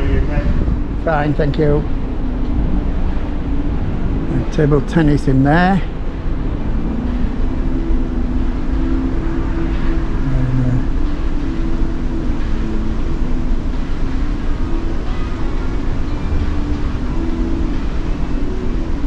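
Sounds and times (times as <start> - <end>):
low rumble of machinery: 0.0 - 19.0.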